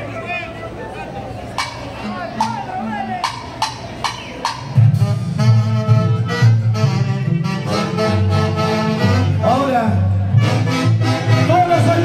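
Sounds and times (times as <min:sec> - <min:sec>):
live band playing: 0:01.4 - 0:12.0.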